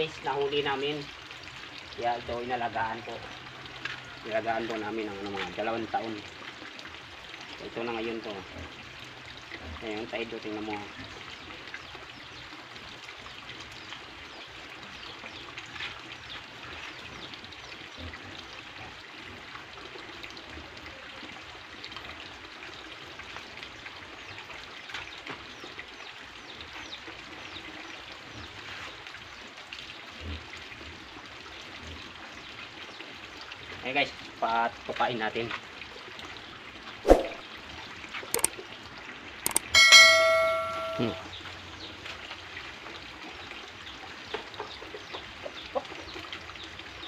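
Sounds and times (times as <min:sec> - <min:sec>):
running water trickling: 0:00.0 - 0:47.0.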